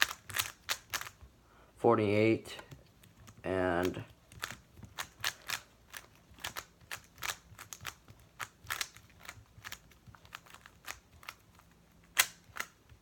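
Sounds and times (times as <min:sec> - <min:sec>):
puzzle cube clicking: 0:00.0 - 0:01.3, 0:02.7 - 0:13.0.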